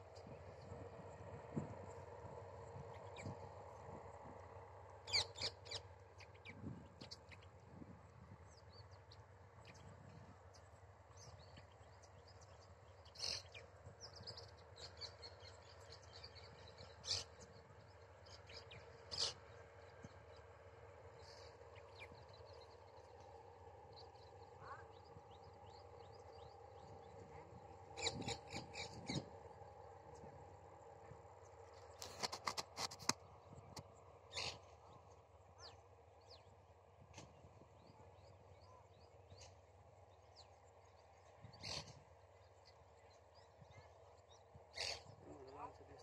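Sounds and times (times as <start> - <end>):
bird calls: 0.0 - 7.6, 8.3 - 46.0
distant combine harvester drone: 0.0 - 46.0.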